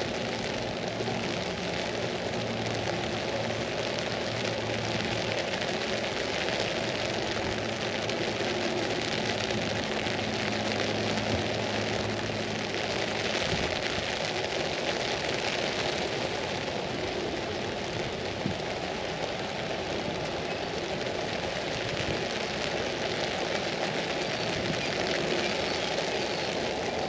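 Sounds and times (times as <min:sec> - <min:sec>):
rain on an umbrella: 0:00.0 - 0:27.0.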